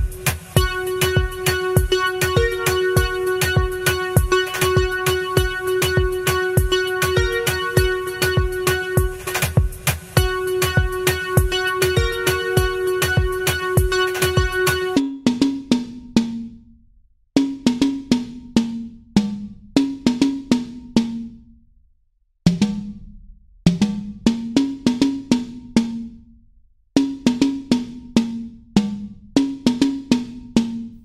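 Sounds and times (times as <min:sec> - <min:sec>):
percussive drum beat: 0:00.0 - 0:16.5, 0:17.4 - 0:21.3, 0:22.5 - 0:23.1, 0:23.7 - 0:26.0, 0:27.0 - 0:31.0.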